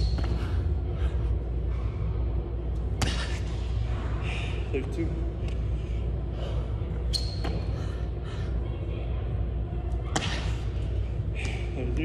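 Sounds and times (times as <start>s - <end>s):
gym room hum: 0.0s - 12.0s
faint voices: 0.2s - 12.0s.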